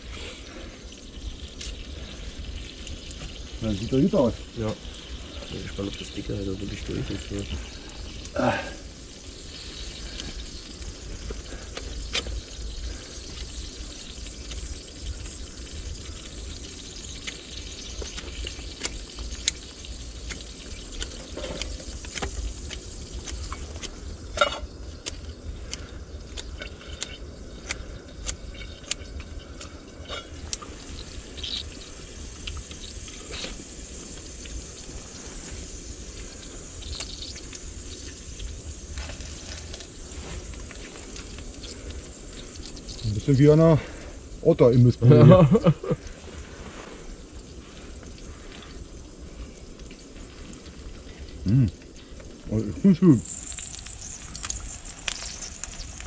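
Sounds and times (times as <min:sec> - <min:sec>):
fire popping and crackling: 0:00.0 - 0:56.0
meat sizzling: 0:00.0 - 0:56.0.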